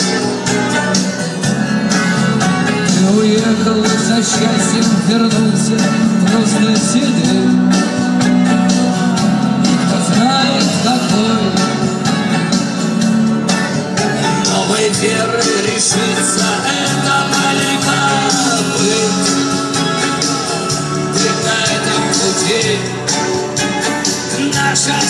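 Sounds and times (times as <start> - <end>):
background song: 0.0 - 25.0.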